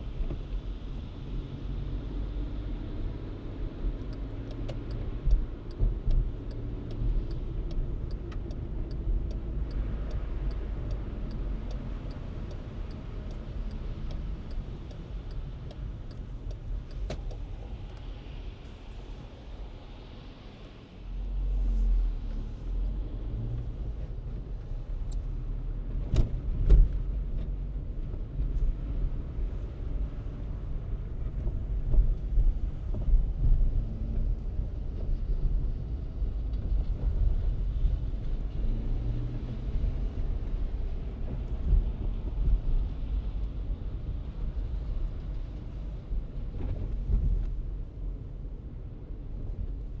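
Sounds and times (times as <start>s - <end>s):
car engine and tyres rumbling: 0.0s - 50.0s.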